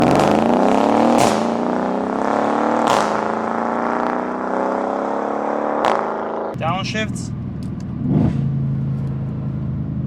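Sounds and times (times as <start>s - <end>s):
car engine accelerating hard: 0.0s - 10.0s.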